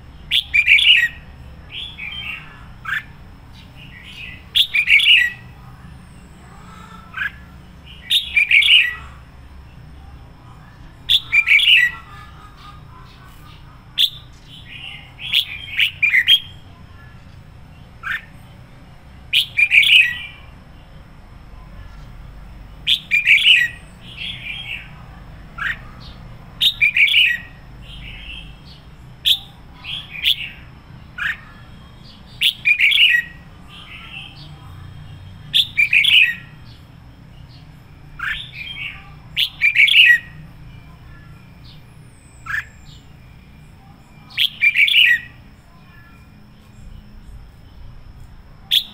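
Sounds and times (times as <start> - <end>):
bulbul singing warbled phrases: 0.0 - 48.9.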